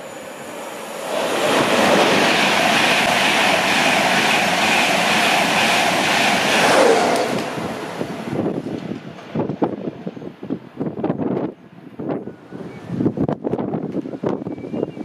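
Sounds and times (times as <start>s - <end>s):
air rush from train: 0.0s - 15.0s.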